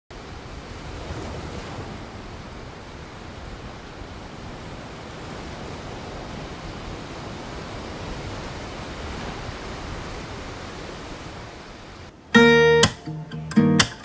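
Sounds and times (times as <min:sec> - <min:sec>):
sea waves washing onto beach: 0:00.1 - 0:13.1.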